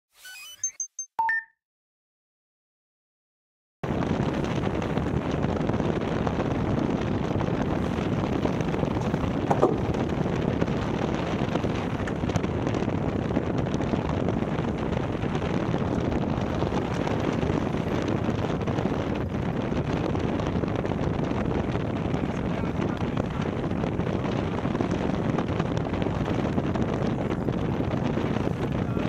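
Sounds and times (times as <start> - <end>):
wind buffeting microphone: 3.8 - 29.0
water rushing along hull: 3.9 - 29.0.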